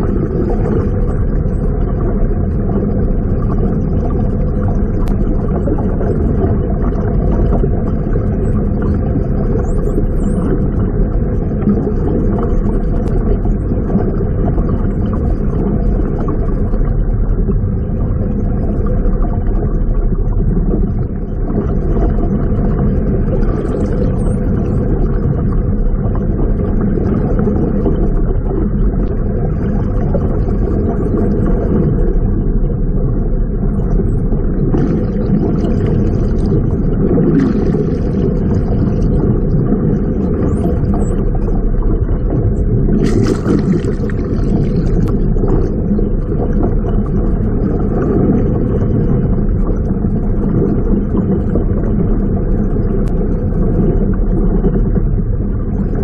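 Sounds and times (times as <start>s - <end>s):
underwater rumble: 0.0s - 56.0s.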